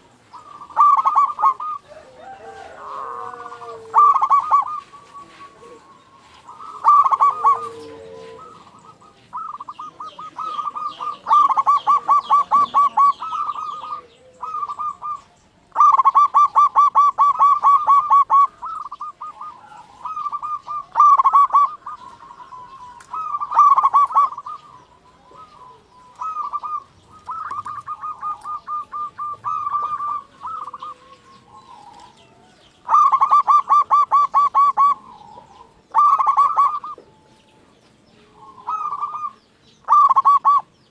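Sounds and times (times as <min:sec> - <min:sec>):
dove stuttering song: 0:00.0 - 0:40.9.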